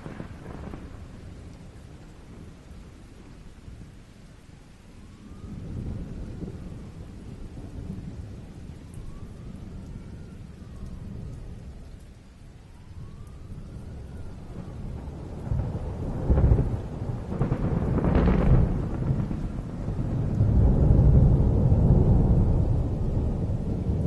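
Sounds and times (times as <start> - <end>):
low rolling thunder: 0.0 - 4.0, 4.9 - 24.0
steady rain: 0.0 - 24.0.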